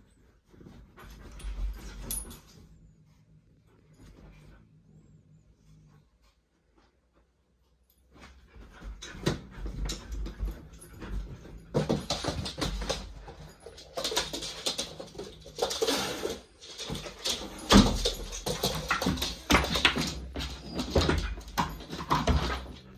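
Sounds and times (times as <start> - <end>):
rustling and knocks of movement: 0.0 - 22.9.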